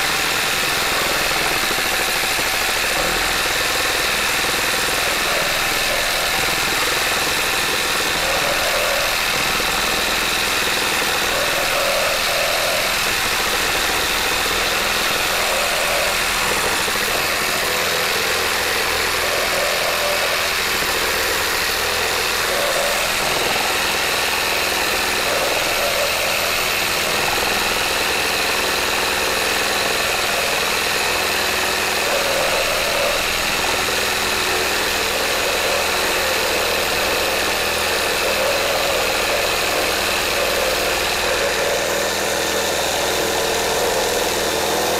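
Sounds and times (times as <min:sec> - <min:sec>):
reciprocating saw cutting timber: 0:00.0 - 0:44.9.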